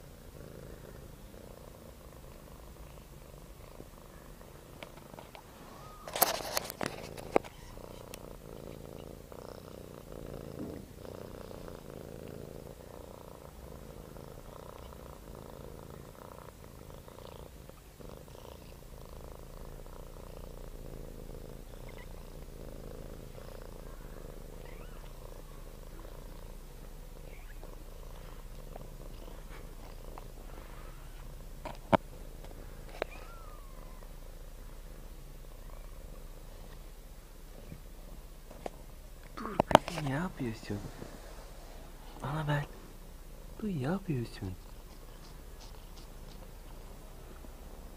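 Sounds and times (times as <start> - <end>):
cat purring: 0.0 - 47.9.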